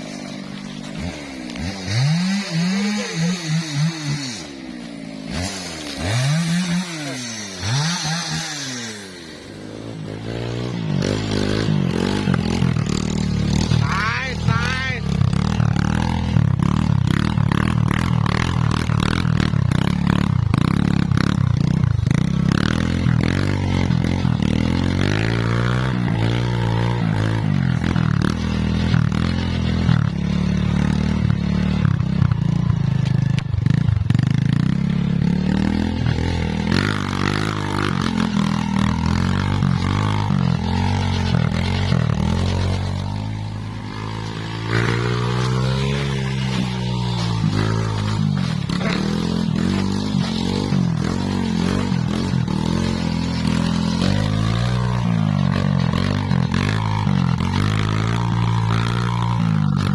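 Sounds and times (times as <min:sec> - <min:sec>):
chainsaw cutting wood: 0:00.0 - 0:32.3, 0:34.2 - 0:59.9.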